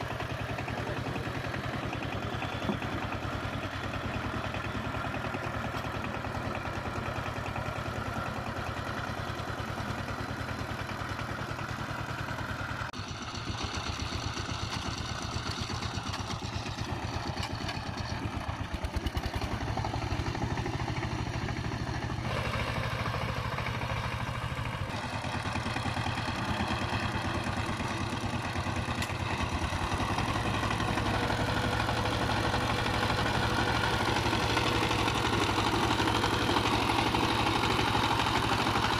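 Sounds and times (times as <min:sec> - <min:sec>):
diesel tiller engine chugging: 0:00.0 - 0:38.9.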